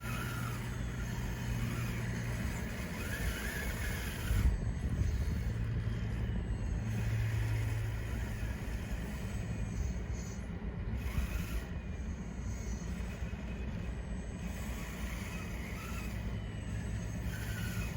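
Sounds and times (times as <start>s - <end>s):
gear whine: 0.0s - 17.9s
model bulldozer motor hum: 0.0s - 17.9s.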